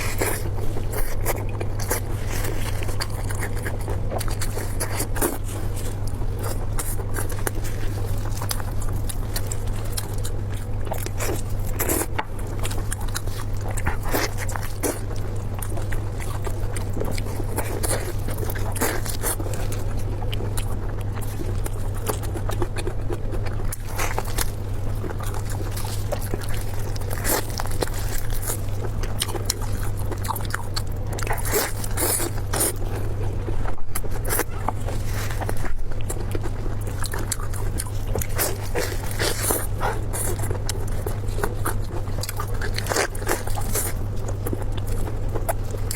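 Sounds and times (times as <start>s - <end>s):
chewing and crunching: 0.0s - 45.9s
steady low hum: 0.0s - 45.9s.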